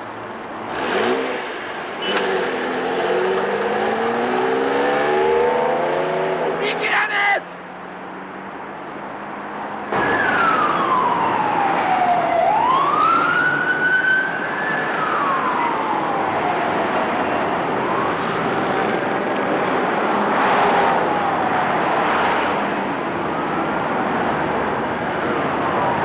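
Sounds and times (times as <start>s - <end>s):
steady rushing noise: 0.0s - 10.1s, 13.5s - 26.0s
wailing siren: 0.0s - 26.0s.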